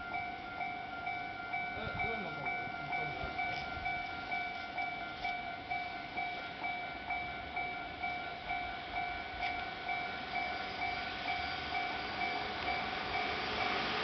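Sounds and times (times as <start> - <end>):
level crossing bell ringing: 0.0 - 13.8.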